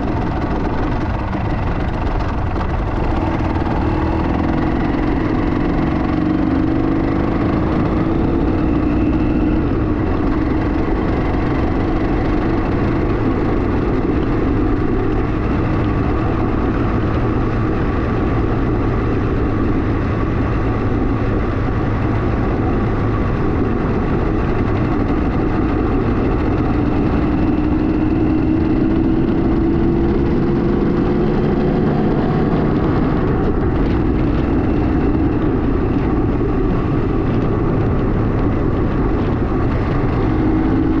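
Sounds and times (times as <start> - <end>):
constant rushing noise: 0.0 - 41.0
two-stroke engine running: 0.0 - 41.0.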